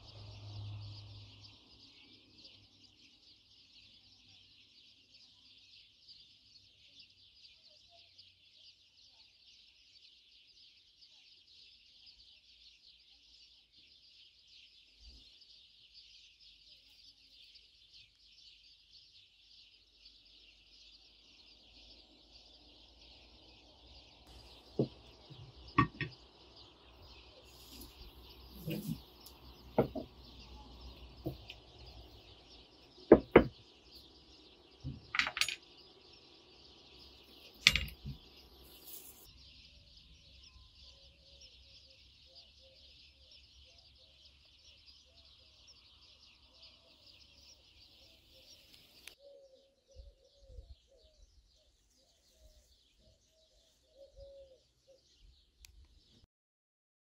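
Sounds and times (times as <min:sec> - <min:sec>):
birds chirping: 0:00.0 - 0:56.3.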